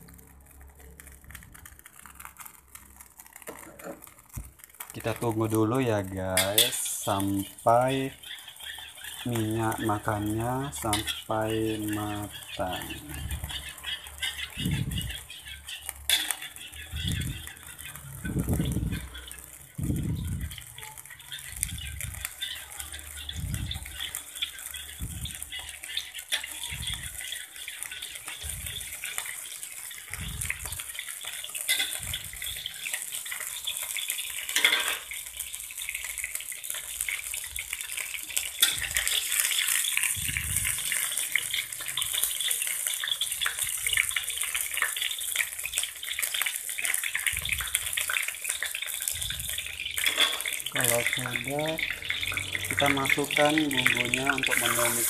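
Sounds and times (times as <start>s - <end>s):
oil hissing in a pan: 0.0s - 55.0s.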